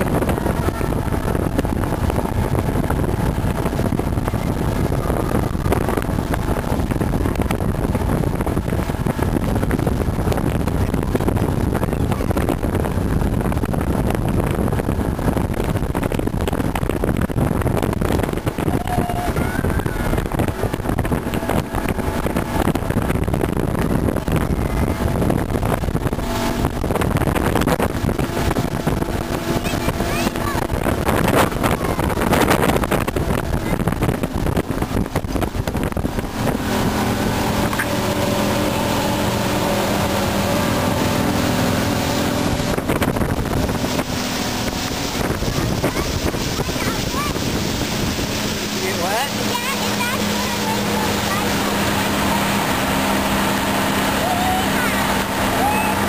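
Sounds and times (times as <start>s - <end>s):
small boat motor running: 0.0s - 56.0s
wind buffeting microphone: 0.0s - 56.0s.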